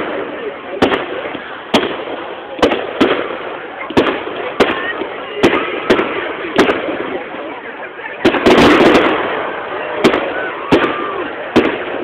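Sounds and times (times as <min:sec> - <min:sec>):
crowd hubbub: 0:00.0 - 0:12.0
fireworks bangs: 0:00.0 - 0:12.0.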